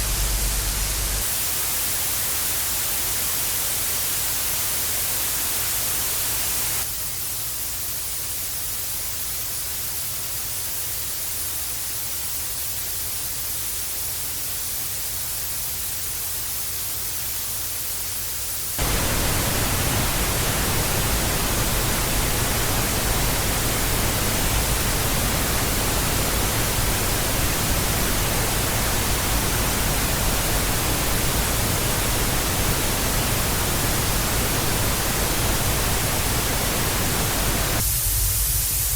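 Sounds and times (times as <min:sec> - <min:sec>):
television static hiss: 0:00.0 - 0:38.0.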